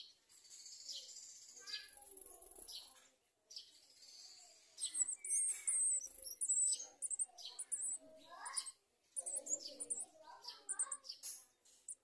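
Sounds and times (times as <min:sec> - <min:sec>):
bird chirping: 0:00.0 - 0:02.9, 0:03.5 - 0:12.0.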